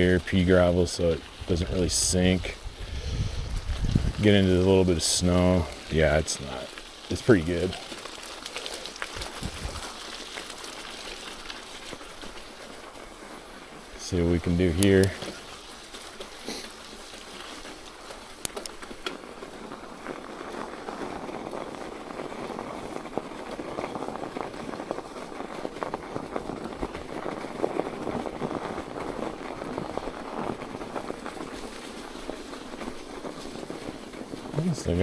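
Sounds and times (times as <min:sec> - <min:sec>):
bike tyres crunching over gravel: 0:00.0 - 0:35.0.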